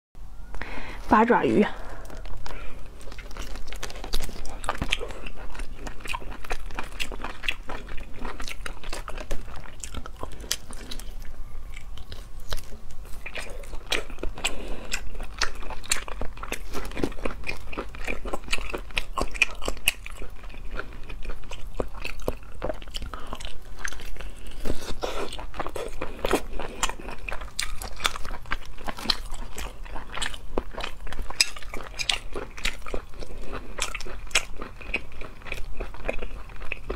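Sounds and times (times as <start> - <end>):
person chewing octopus: 1.8 - 36.9.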